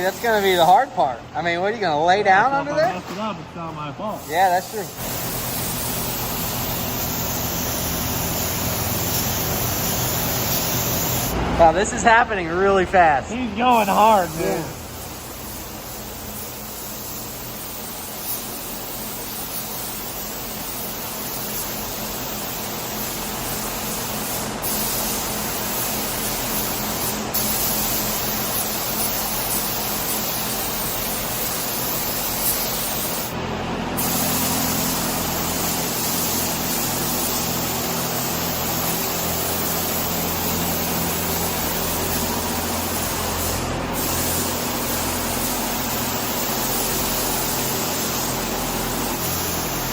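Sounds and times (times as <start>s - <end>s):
paint spray gun hissing: 4.1s - 11.4s, 13.3s - 33.4s, 34.0s - 49.9s.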